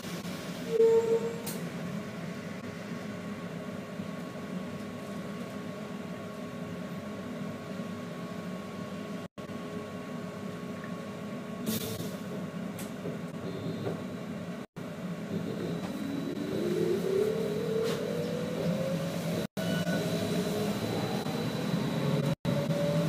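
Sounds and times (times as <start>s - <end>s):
trolleybus cabin hum: 0.0s - 23.0s.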